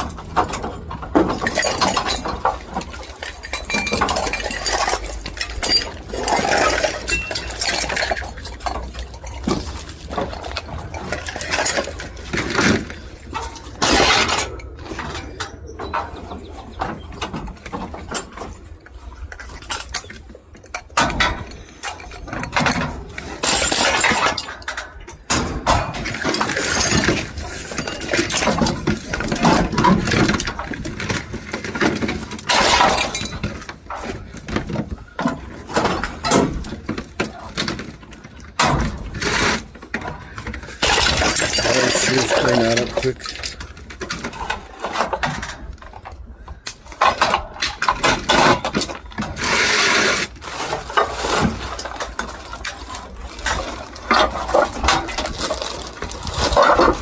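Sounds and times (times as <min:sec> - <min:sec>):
scrap metal clanking and crashing: 0:00.0 - 0:57.0.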